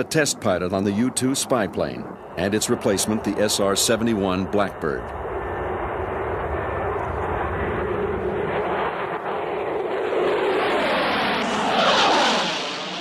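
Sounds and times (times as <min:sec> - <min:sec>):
aircraft flying past: 0:00.0 - 0:13.0.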